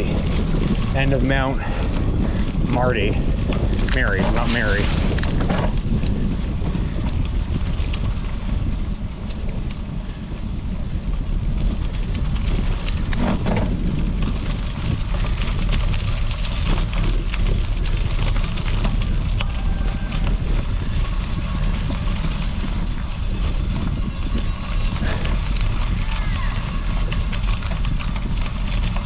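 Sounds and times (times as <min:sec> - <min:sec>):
bicycle tyres rolling over gravel: 0:00.0 - 0:29.0
wind rumbling on microphone: 0:00.0 - 0:29.0.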